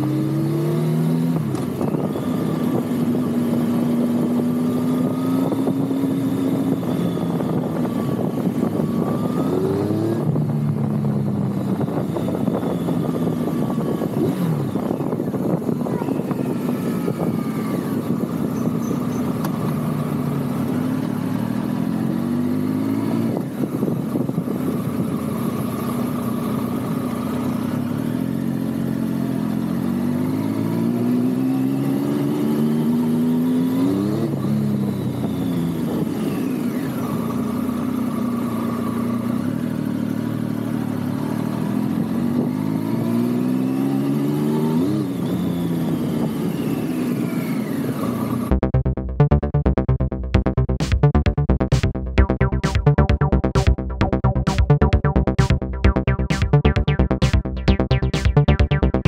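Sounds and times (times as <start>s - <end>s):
motorcycle engine revving: 0.0s - 52.3s.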